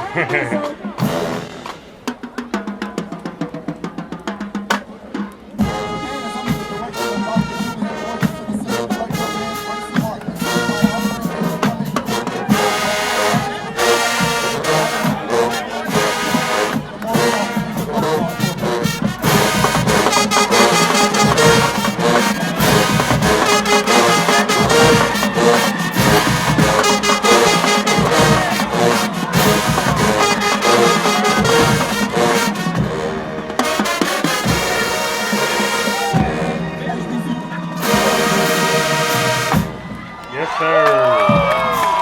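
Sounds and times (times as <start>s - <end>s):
brass section playing chords: 0.0s - 2.0s, 5.6s - 39.9s
drum line playing: 0.0s - 42.0s.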